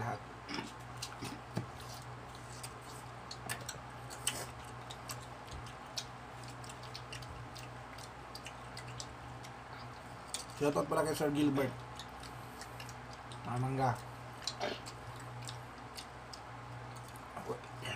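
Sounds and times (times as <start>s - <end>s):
wet chewing clicks and smacks: 0.5s - 17.9s.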